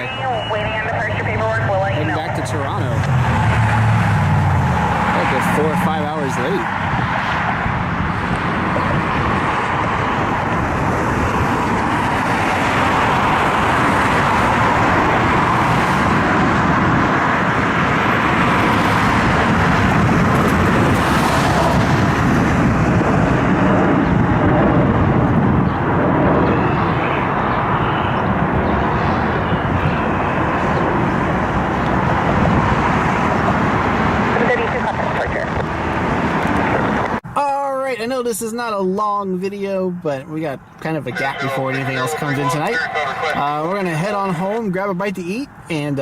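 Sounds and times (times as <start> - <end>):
jet airliner engine roar: 0.0 - 37.2, 41.1 - 44.6.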